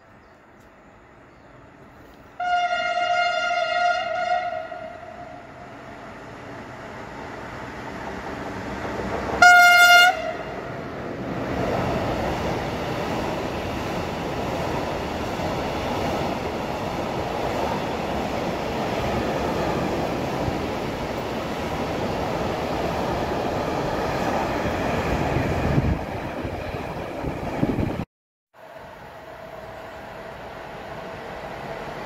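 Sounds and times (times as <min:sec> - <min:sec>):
freight train rumbling and rattling: 0:04.0 - 0:32.0.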